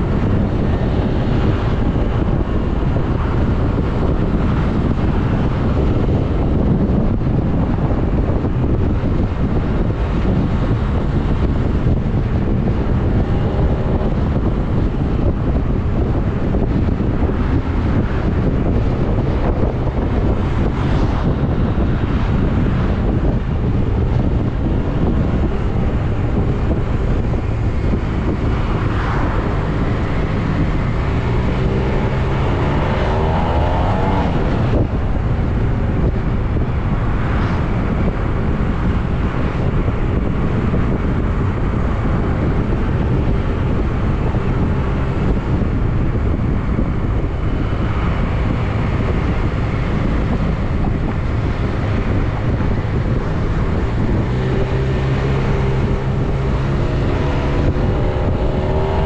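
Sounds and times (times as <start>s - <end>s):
motorcycle engine: 0.0s - 59.0s
wind noise on microphone: 0.0s - 59.0s.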